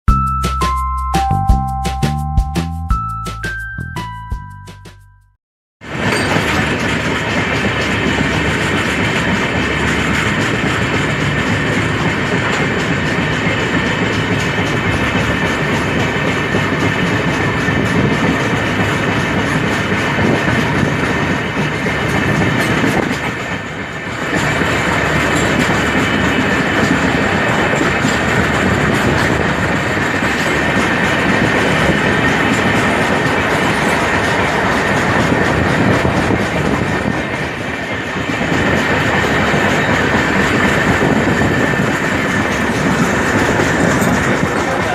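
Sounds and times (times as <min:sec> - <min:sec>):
train wheels rumbling on rails: 0:05.8 - 0:44.9.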